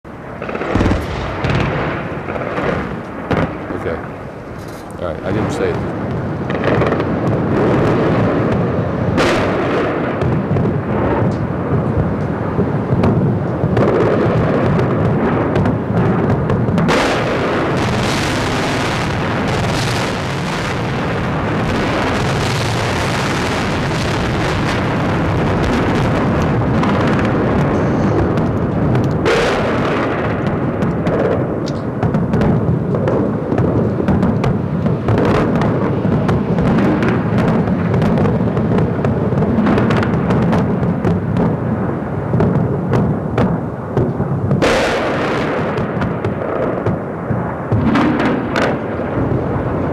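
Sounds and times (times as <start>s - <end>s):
bomb explosions: 0.0s - 49.9s
sharp blasts: 0.2s - 11.3s, 13.8s - 41.5s, 44.6s - 49.3s.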